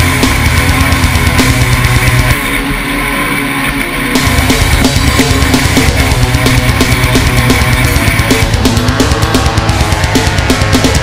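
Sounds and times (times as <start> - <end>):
buggy engine running hard: 0.0 - 11.0
rock music: 0.0 - 11.0.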